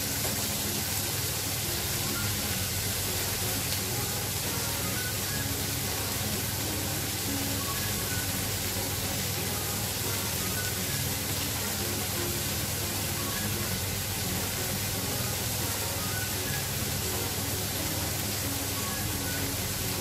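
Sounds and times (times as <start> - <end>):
shrimp sizzling in oil: 0.0 - 20.0.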